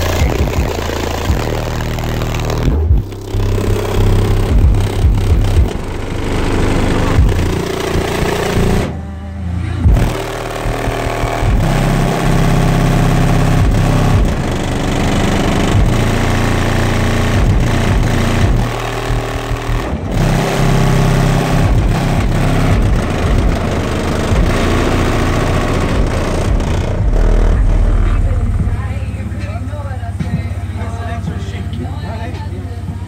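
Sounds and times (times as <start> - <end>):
bass-heavy music from car subwoofers: 0.0 - 33.0.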